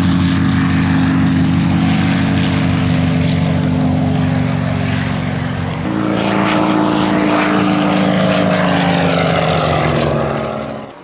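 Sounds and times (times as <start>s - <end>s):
propeller aircraft flying overhead: 0.0s - 11.0s.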